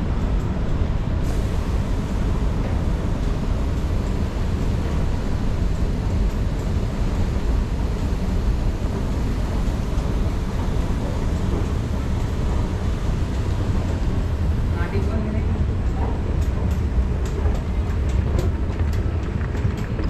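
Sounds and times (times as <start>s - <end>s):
air handling hum: 0.0s - 20.0s
escalator rumbling: 0.0s - 20.0s.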